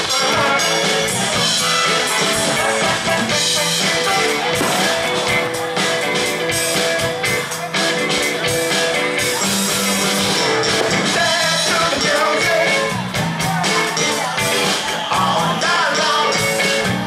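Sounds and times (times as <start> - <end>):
drums: 0.0 - 17.0
live rock band playing: 0.0 - 17.0.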